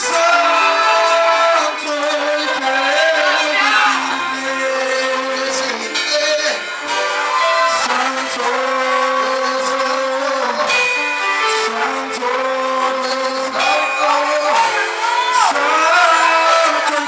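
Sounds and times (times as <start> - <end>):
electronic keyboard chords: 0.0 - 17.0
man singing: 0.0 - 17.0.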